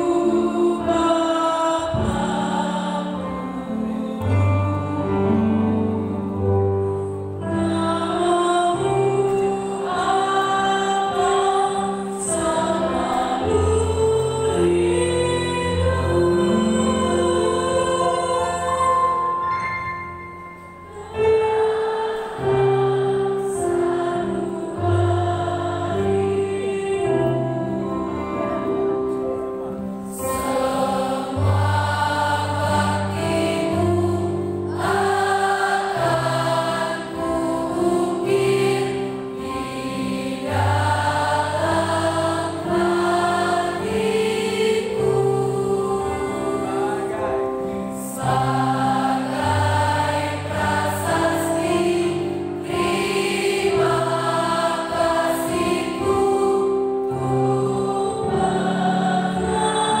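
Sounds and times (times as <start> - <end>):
mixed choir singing: 0.0 - 6.5, 7.4 - 19.6, 20.6 - 28.9, 29.8 - 60.0.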